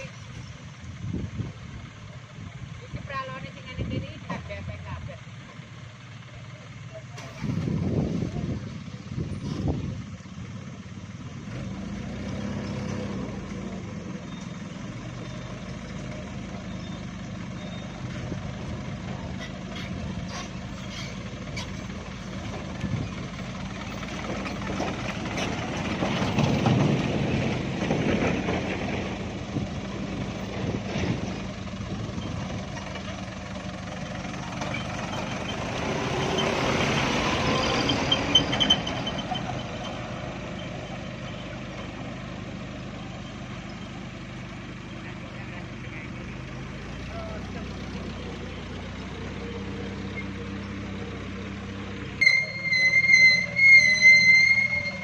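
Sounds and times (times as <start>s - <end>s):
truck diesel engine under load: 0.0s - 55.0s.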